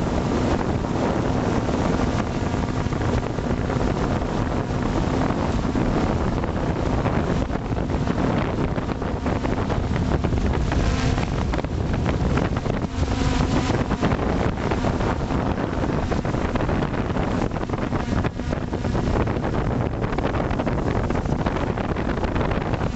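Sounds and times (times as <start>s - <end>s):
drone motors and propellers: 0.0s - 22.9s
wind buffeting microphone: 0.0s - 22.9s.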